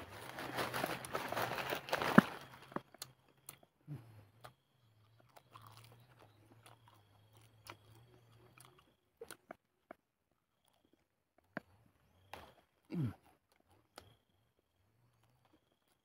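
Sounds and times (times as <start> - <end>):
chewing leaves: 0.0 - 16.0.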